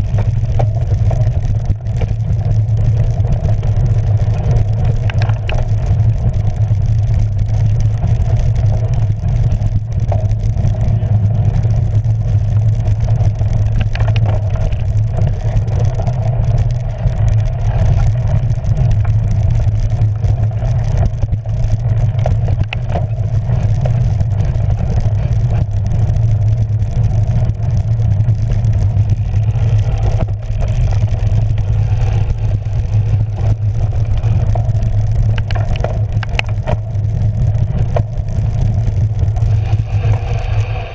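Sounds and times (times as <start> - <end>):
bike rattling: 0.0 - 40.9
bike tyres rumbling: 0.0 - 40.9.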